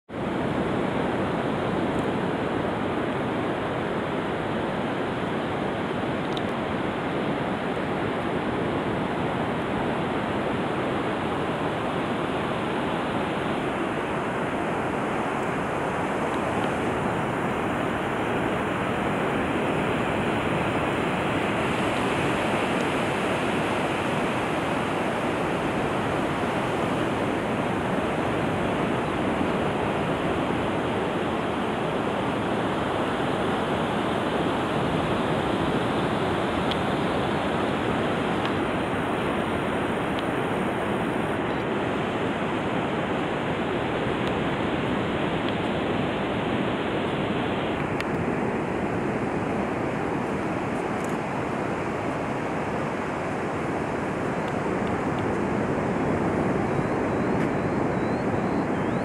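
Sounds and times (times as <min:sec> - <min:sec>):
wind: 0:00.0 - 0:59.0
ocean surf on sand: 0:00.1 - 0:59.0.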